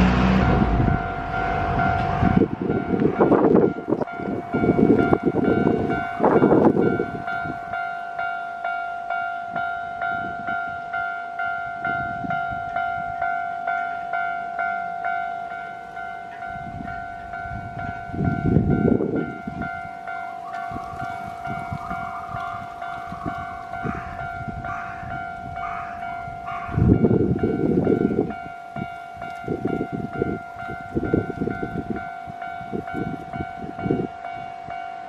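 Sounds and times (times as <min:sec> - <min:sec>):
train rumbling past: 0:00.0 - 0:35.0
level crossing bell clanging: 0:00.5 - 0:21.4, 0:22.0 - 0:35.0.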